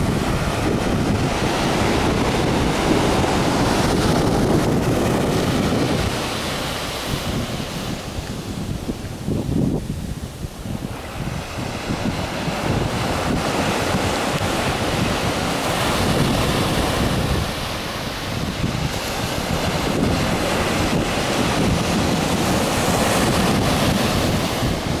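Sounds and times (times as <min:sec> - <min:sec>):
surf washing on sandy beach: 0:00.0 - 0:25.0
wind buffeting microphone: 0:00.0 - 0:25.0.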